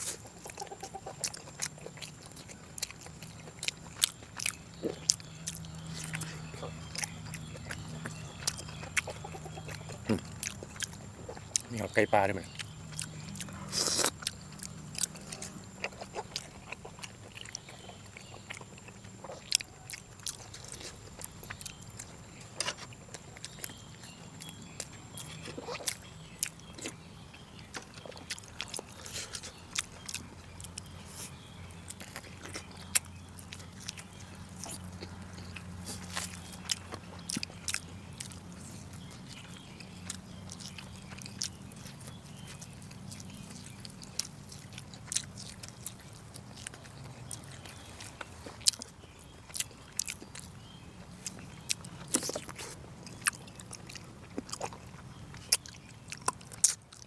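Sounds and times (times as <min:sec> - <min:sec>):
person chewing with wet smacks: 0:00.0 - 0:57.0.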